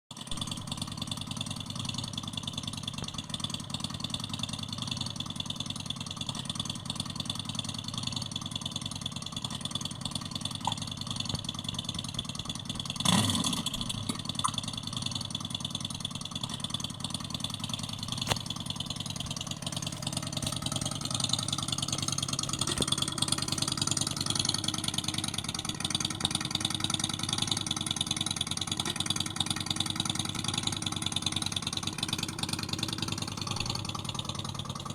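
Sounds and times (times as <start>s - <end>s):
simulated motorcycle engine idling: 0.1s - 34.9s.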